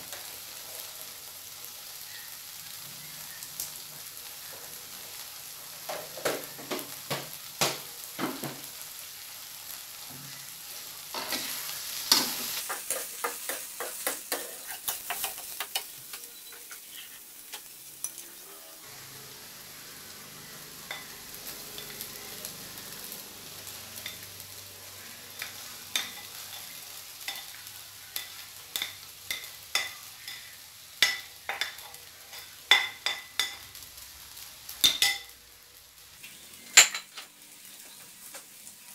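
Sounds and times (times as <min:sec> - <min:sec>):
faint sizzling in a pan: 0:00.0 - 0:38.9.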